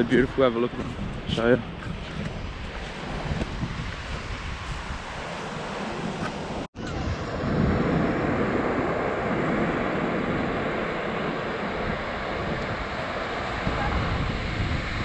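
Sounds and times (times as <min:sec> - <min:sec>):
gentle surf: 0:00.0 - 0:15.0
wind buffeting microphone: 0:00.0 - 0:15.0.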